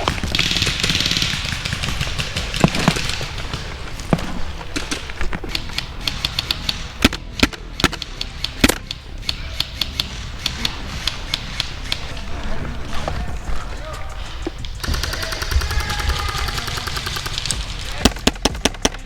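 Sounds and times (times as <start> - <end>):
airsoft guns firing: 0.0 - 19.0.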